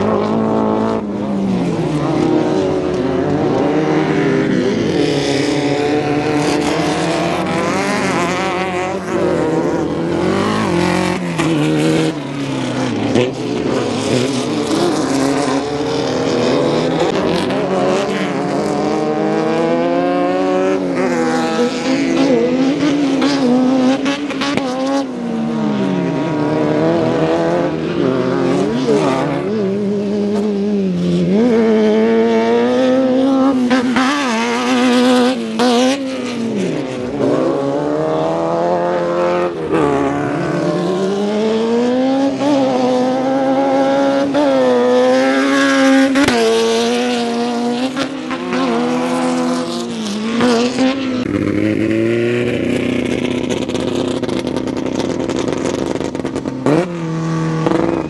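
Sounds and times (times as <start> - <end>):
race buggy engines racing past: 0.0 - 58.0.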